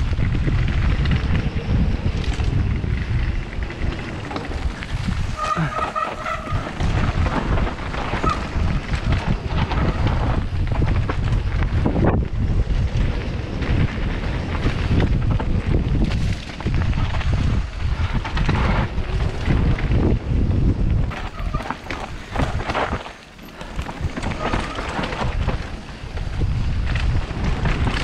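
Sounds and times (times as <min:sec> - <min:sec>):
rumbling and rattling from bumps: 0:00.0 - 0:28.0
wind buffeting microphone: 0:00.0 - 0:28.0.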